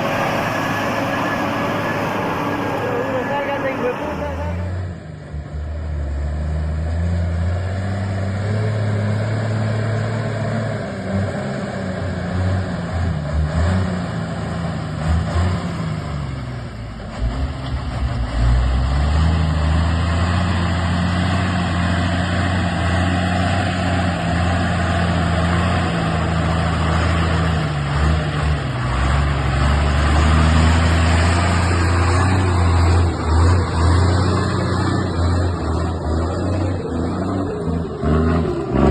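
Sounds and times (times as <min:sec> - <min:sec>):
truck engine under load: 0:00.0 - 0:38.9.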